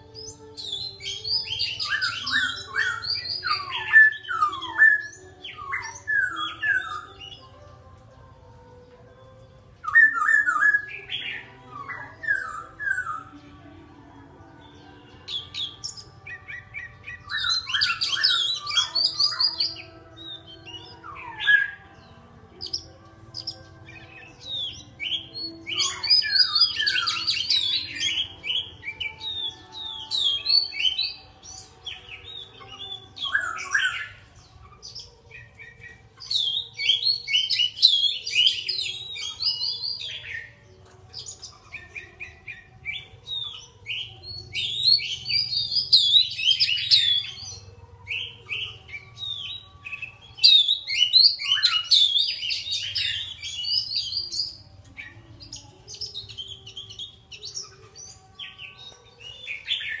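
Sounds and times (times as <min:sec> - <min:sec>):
songbird chirping and trilling: 0:00.0 - 1:00.0.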